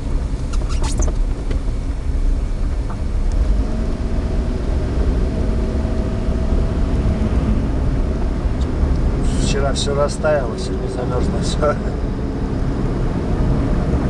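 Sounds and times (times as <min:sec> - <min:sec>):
car engine and road noise: 0:00.0 - 0:14.0
steady engine tone: 0:00.0 - 0:14.0.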